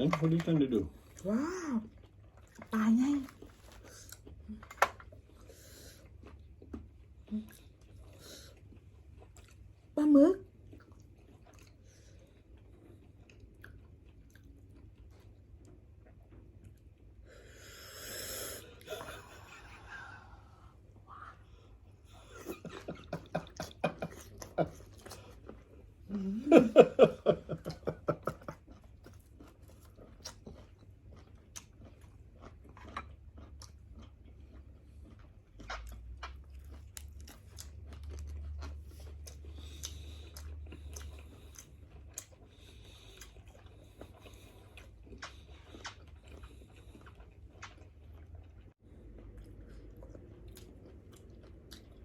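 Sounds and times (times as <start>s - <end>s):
chewing and biting seafood: 1.9s - 17.3s, 21.6s - 52.0s.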